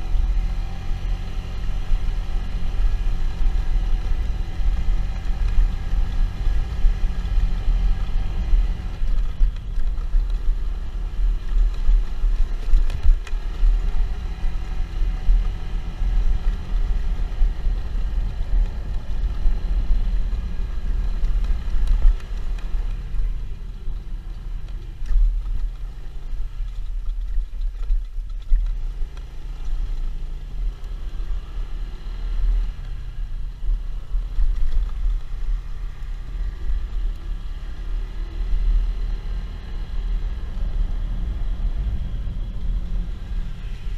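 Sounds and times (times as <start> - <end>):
motorcycle engine rumbling: 0.0 - 43.9.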